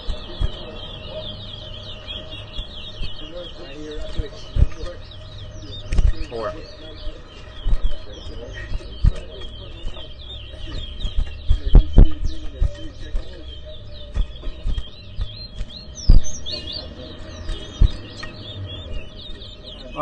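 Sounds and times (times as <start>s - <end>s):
finch singing whistled chirps: 0.0s - 20.0s.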